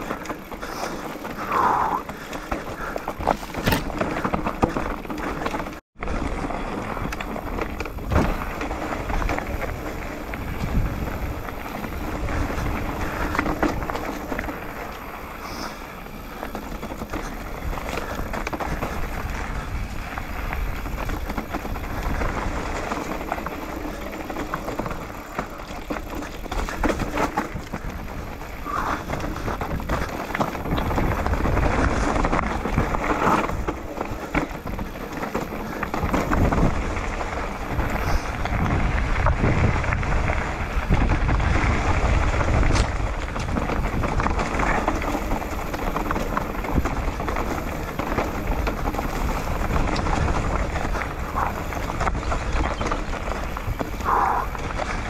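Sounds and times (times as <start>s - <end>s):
bike rattling and knocking: 0.0s - 55.0s
bike tyres on dirt and leaves: 0.0s - 55.0s
wind rumble on microphone: 0.0s - 55.0s.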